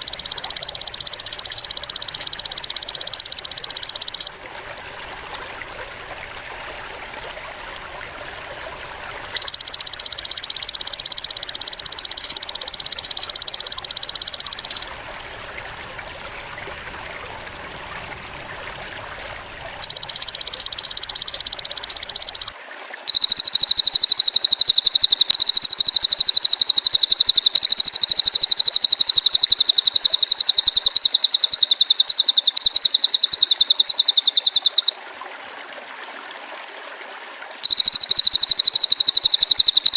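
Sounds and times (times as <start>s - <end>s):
shrill pulsing bird and insect trills: 0.0s - 4.4s, 8.8s - 34.9s, 37.6s - 39.9s
trickling water: 0.0s - 39.9s.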